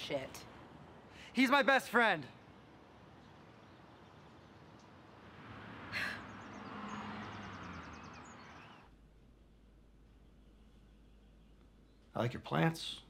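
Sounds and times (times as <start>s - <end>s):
outdoor suburban ambience: 0.0s - 13.0s.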